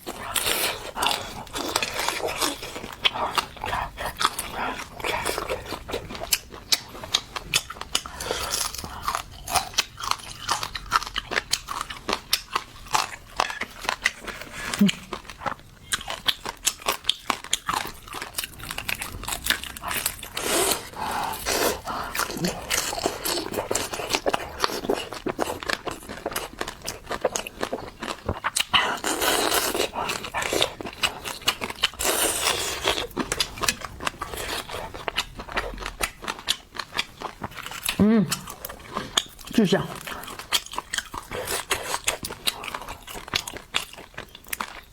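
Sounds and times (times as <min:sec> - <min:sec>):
crunchy food chewing: 0:00.0 - 0:44.9.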